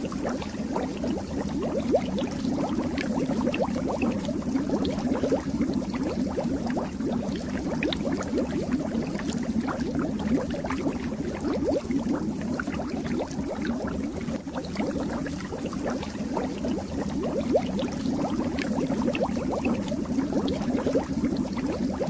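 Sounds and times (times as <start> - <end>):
aquarium water bubbling: 0.0 - 22.0.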